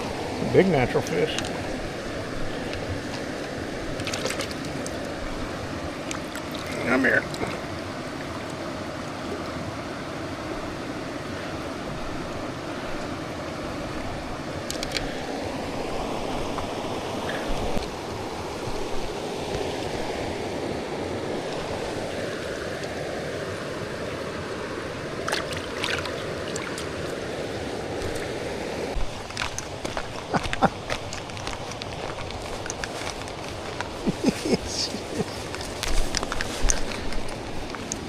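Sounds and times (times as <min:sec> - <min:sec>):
river flowing over rocks: 0:00.0 - 0:38.0.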